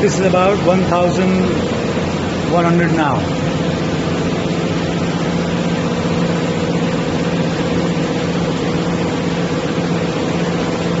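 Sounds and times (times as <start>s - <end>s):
machine hum with tones: 0.0s - 11.0s.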